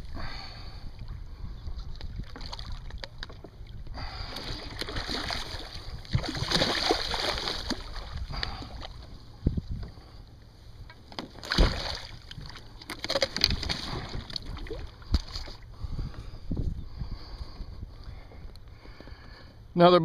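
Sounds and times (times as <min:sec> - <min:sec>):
wind rumbling on microphone: 0:00.0 - 0:10.9, 0:11.6 - 0:19.7
water lapping around kayak: 0:00.0 - 0:19.7.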